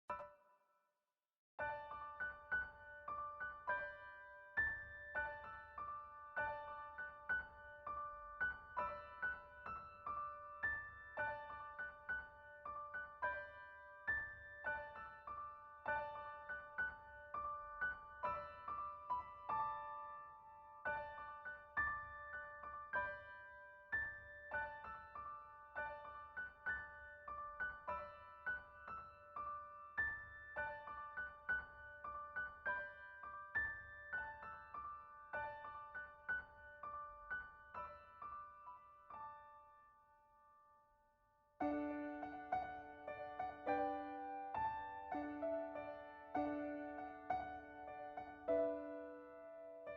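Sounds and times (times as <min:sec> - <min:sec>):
gentle piano melody: 0:01.6 - 0:49.9.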